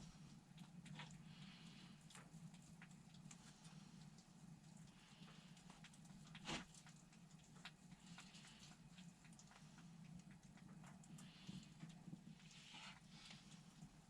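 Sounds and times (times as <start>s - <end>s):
faint ticks and clicks: 0.0s - 14.0s
steady low hum: 0.0s - 14.0s.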